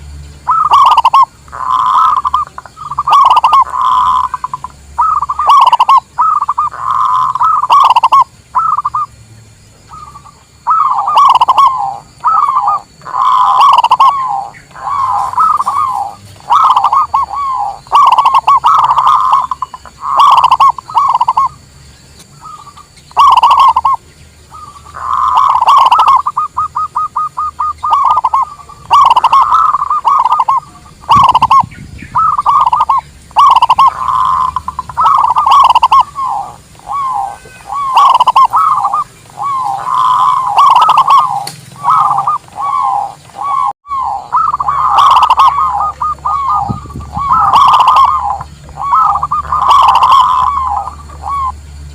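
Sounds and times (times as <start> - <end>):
dove cooing: 0.4 - 9.1, 9.9 - 21.6, 22.2 - 51.6.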